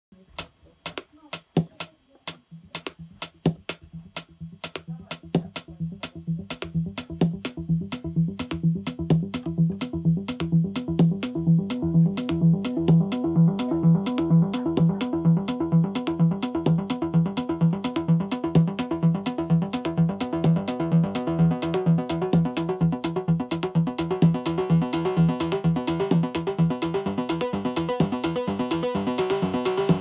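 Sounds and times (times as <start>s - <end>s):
electronic hi-hat ticking: 0.2s - 30.0s
synthesizer bass line: 1.6s - 30.0s.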